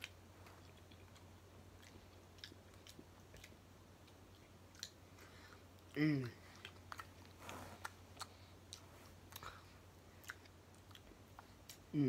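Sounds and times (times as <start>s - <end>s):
faint low hum: 0.0s - 12.0s
person chewing: 0.0s - 12.0s.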